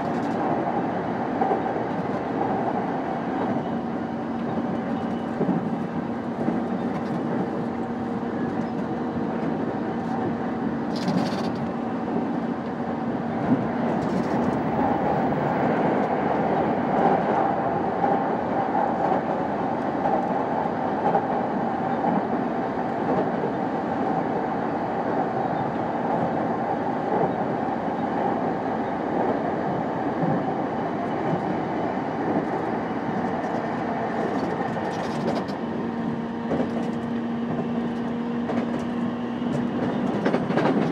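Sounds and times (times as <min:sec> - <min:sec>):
steady train hum: 0:00.0 - 0:40.9
wheels rumbling on rail: 0:00.0 - 0:40.9.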